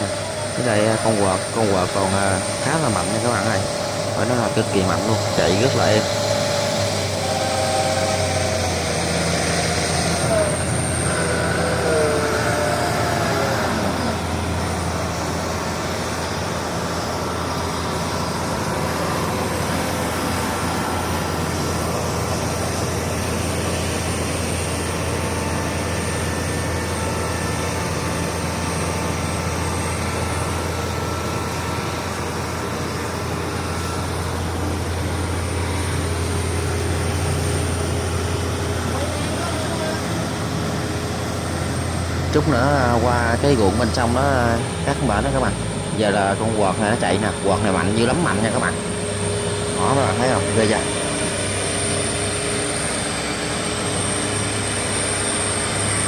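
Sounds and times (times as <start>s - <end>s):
diesel engine droning: 0.0s - 56.0s
faint high whine: 0.0s - 56.0s.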